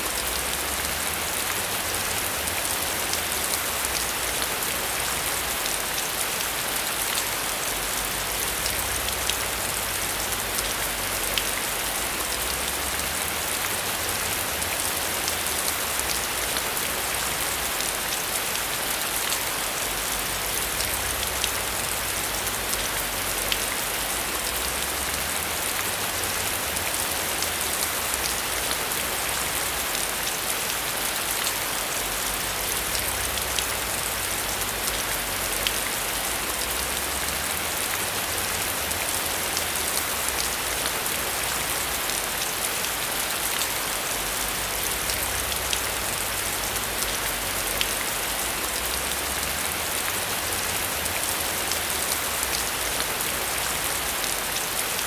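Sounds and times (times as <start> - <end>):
heavy rain: 0.0 - 55.0
raindrops ticking on a surface: 0.0 - 55.0.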